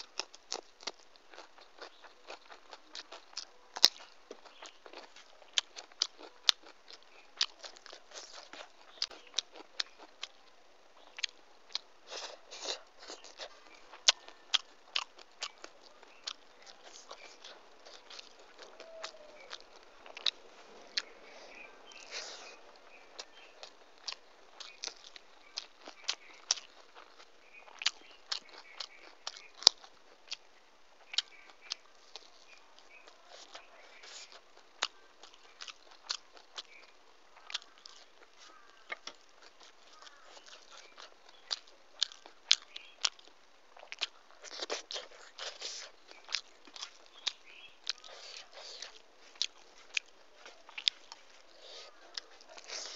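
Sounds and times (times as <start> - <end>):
chewing with wet mouth clicks: 0.0 - 52.9
crisp food crunches: 0.0 - 52.9.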